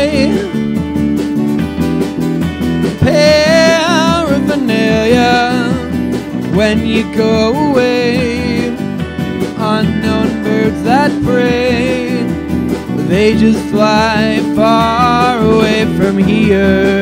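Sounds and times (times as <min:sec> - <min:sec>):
man singing: 0:00.0 - 0:00.9, 0:02.9 - 0:17.0
guitar chords: 0:00.0 - 0:17.0.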